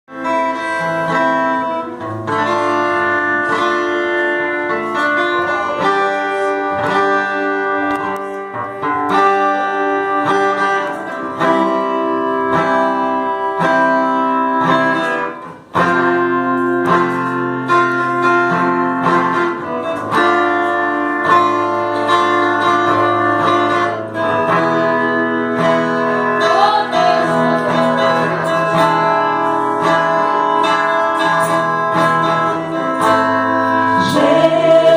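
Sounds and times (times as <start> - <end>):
guitar music: 0.1 - 34.9.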